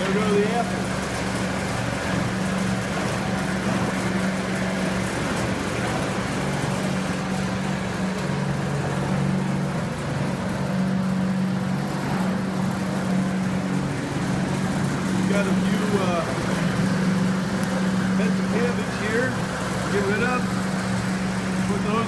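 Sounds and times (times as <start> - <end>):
garbage disposal grinding: 0.0 - 22.0.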